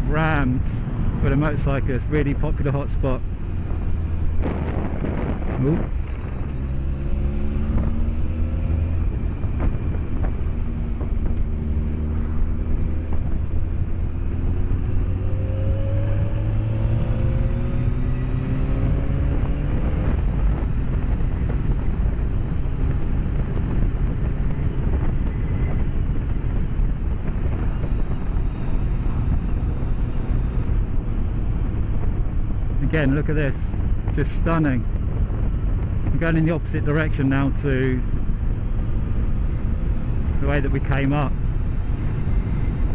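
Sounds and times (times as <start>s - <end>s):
road noise: 0.0s - 42.9s
wind noise: 0.0s - 42.9s
motorcycle engine accelerating: 2.0s - 42.9s.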